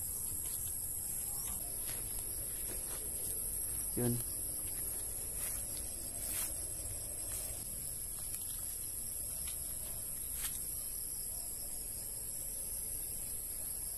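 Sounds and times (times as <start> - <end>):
high-pitched insect chorus: 0.0 - 13.9.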